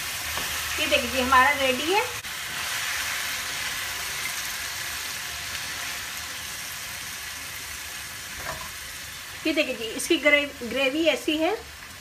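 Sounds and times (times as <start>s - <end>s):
curry sizzling in frying pan: 0.0s - 12.0s.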